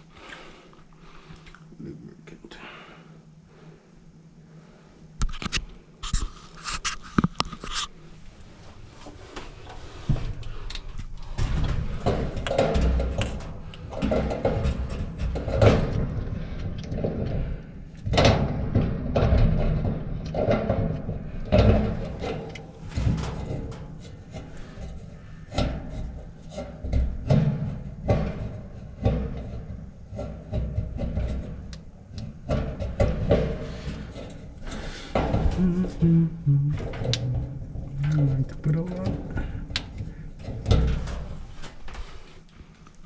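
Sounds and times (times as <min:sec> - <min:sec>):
clunks and scraping of dryer parts: 0:05.2 - 0:43.0.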